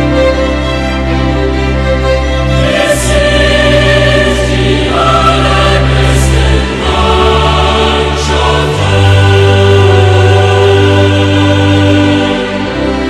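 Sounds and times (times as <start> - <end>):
choir singing held chords: 2.2 - 13.0.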